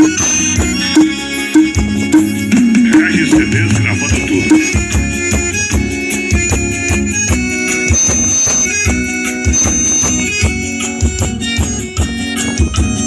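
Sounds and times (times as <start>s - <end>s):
loud music with percussive beat: 0.0s - 13.0s.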